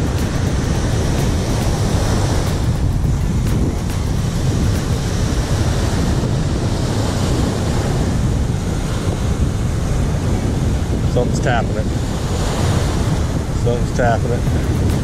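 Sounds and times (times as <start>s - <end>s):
surf waves breaking on beach: 0.0s - 15.0s
wind buffeting microphone: 0.0s - 15.0s.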